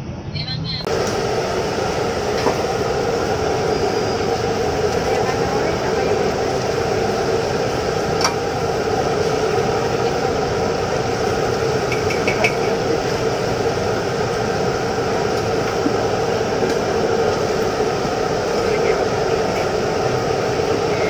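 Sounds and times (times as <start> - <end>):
gas burner roar: 0.8 - 21.0
oil sizzling: 0.9 - 21.0.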